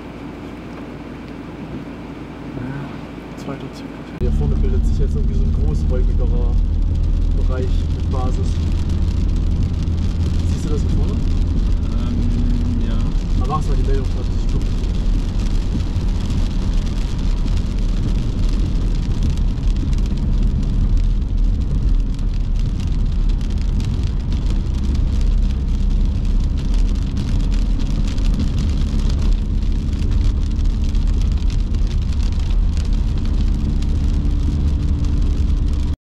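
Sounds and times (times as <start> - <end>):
car engine and road rumble: 0.0 - 36.0
rain ticking on windscreen: 0.0 - 36.0.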